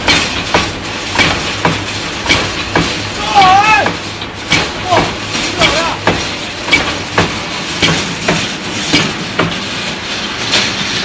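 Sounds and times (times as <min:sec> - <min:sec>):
pitting mechanism knocking: 0:00.0 - 0:11.0
steady motor hum: 0:00.0 - 0:11.0.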